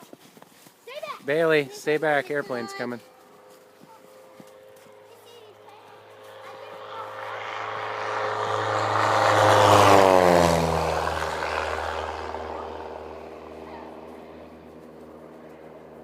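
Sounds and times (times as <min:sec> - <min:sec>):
airplane engine drone passing: 0:01.3 - 0:16.0.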